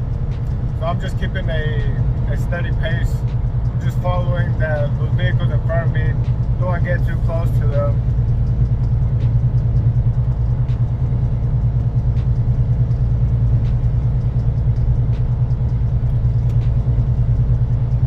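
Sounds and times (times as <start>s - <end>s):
road noise: 0.0s - 18.0s
truck diesel engine rumble: 0.0s - 18.0s.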